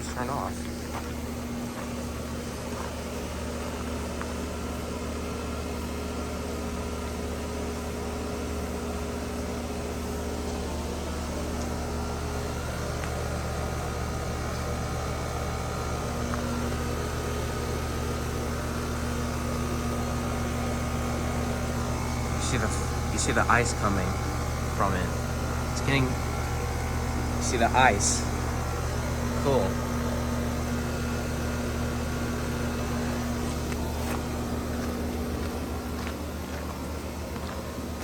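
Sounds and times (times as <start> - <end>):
air conditioner humming: 0.0 - 38.0.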